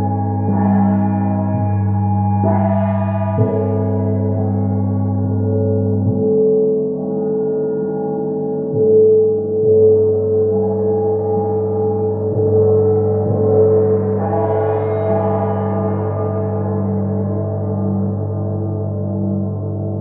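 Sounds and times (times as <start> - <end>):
deep gong hum: 0.0 - 8.0, 8.7 - 20.0.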